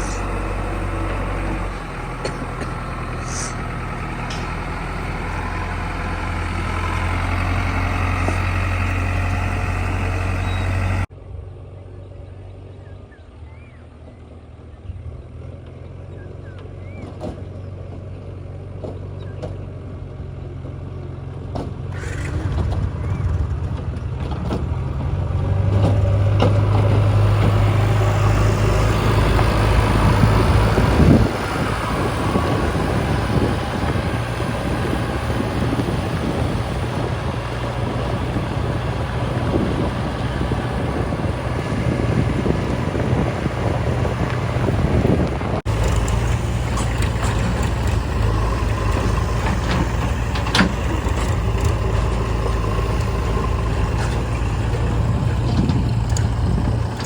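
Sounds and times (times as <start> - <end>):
heavy diesel engine: 0.0 - 57.0.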